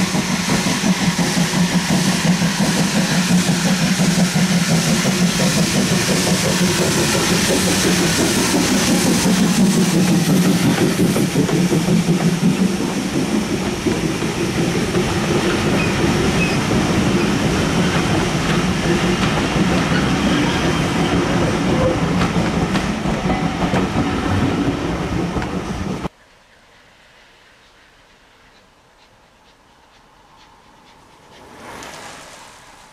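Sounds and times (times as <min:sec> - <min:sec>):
steam train passing: 0:00.0 - 0:32.9.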